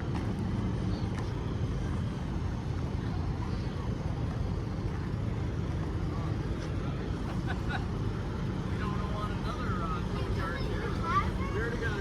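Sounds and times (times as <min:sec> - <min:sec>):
large vehicle engine rumbling: 0:00.0 - 0:12.0.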